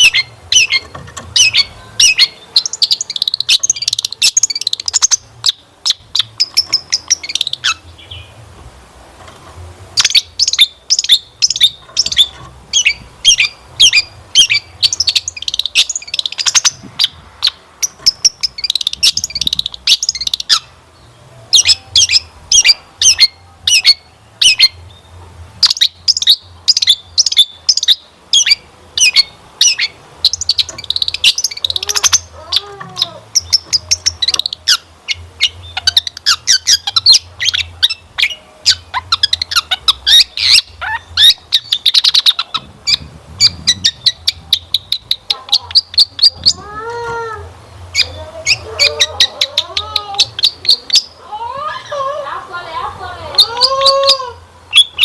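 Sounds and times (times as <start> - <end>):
bird singing sharp chips and trills: 0.0 - 8.4, 9.9 - 46.6, 47.6 - 51.2, 53.4 - 55.0.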